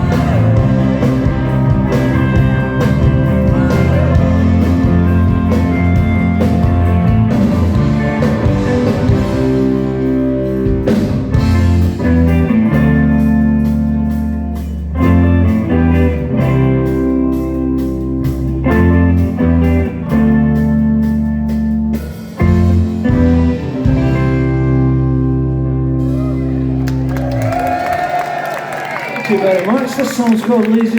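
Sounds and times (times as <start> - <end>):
rock band playing live: 0.0 - 30.9.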